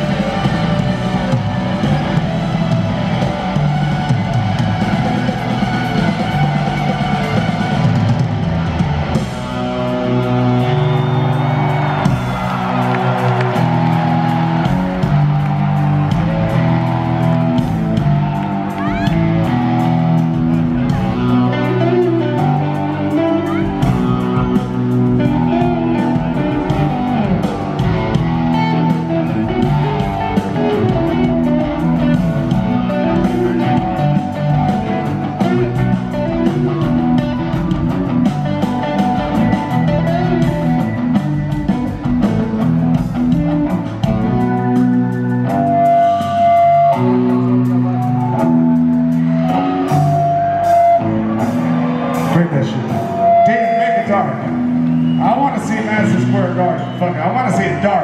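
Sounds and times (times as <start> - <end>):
rock band with electric guitars: 0.0 - 58.0.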